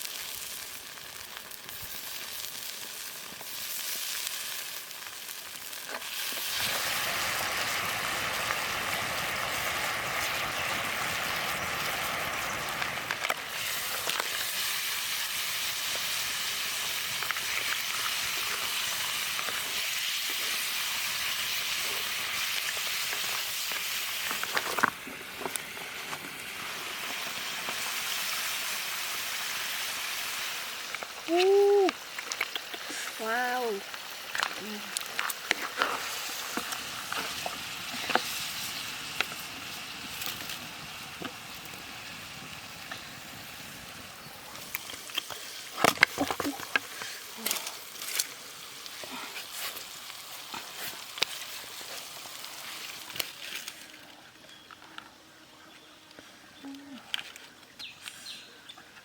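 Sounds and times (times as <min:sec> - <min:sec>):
food sizzling in a pan: 0:00.0 - 0:53.7.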